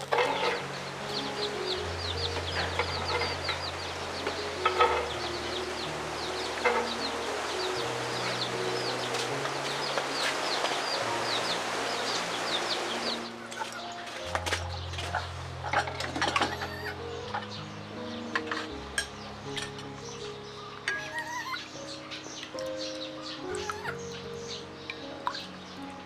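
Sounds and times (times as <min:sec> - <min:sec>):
chicks peeping: 0:00.0 - 0:26.0
soft background music: 0:00.0 - 0:26.0.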